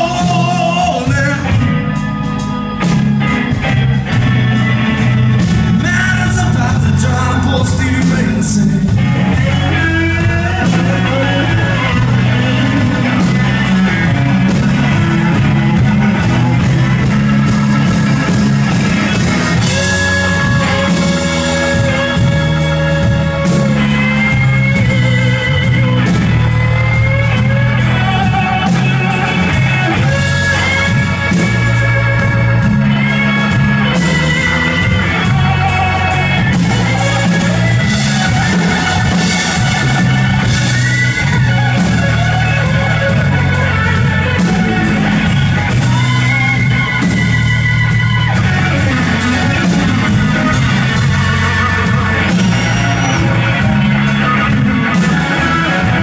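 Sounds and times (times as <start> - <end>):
bass guitar: 0.0 - 56.0
drums: 0.0 - 56.0
electric guitar lead: 0.0 - 56.0
organ: 0.0 - 56.0.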